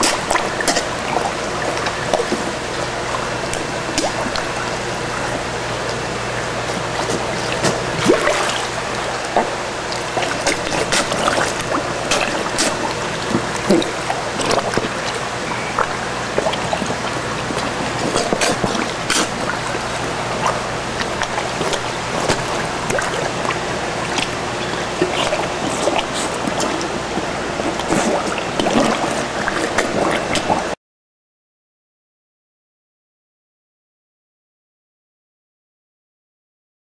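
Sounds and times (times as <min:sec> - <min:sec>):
fish splashing and slurping: 0:00.0 - 0:30.8
rushing water: 0:00.0 - 0:30.8.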